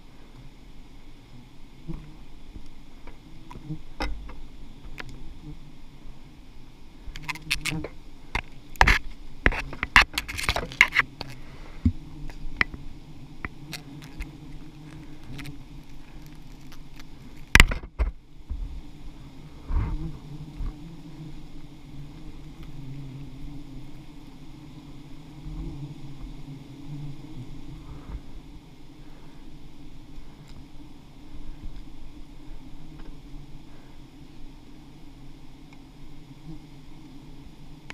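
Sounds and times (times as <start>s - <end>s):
bees humming: 0.0s - 37.9s.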